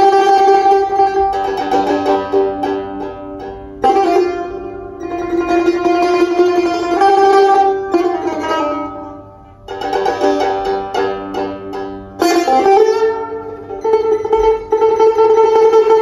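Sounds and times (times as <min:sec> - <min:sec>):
plucked lute melody: 0:00.0 - 0:16.0.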